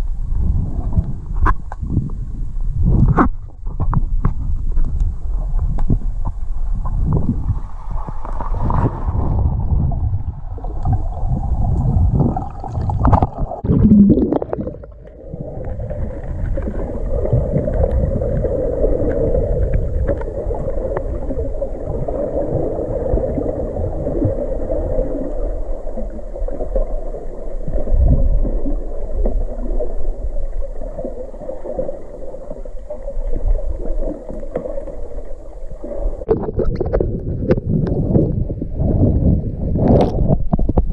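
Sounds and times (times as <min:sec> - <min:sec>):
low underwater drone: 0:00.0 - 0:39.9
muffled underwater sloshing: 0:00.0 - 0:40.9.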